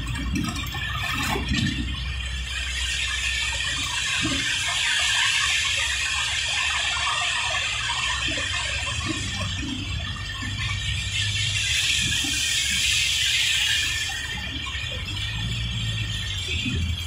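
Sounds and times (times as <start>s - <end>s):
low road rumble: 0.0s - 6.1s, 7.7s - 17.0s
tyres hissing on wet road: 1.1s - 17.0s
water spray: 2.6s - 16.9s.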